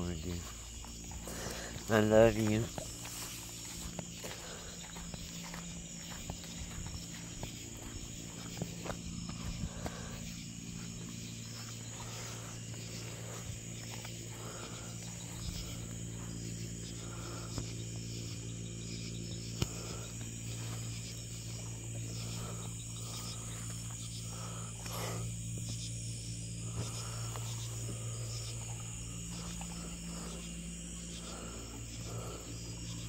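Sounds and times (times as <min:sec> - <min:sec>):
insects chirping: 0:00.0 - 0:33.0
low steady hum: 0:00.0 - 0:33.0.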